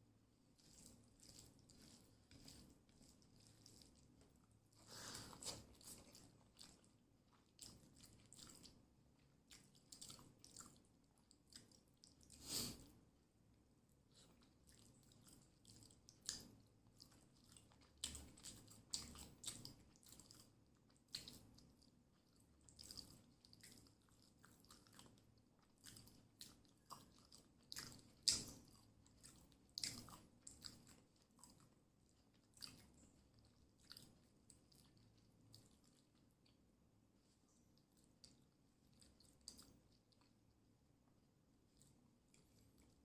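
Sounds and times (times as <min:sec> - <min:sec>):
chewing food: 0:00.4 - 0:13.0, 0:14.1 - 0:40.7, 0:41.6 - 0:43.0.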